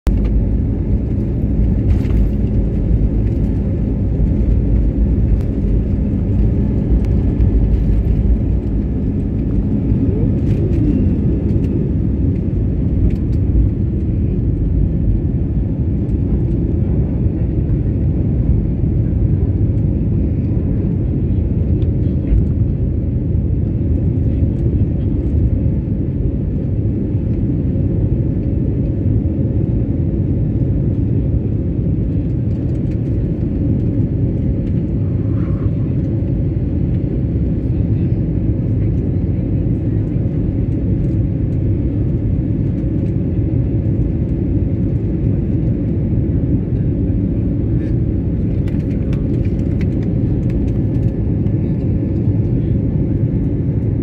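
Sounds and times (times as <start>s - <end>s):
jet engines rumbling: 0.1s - 54.0s.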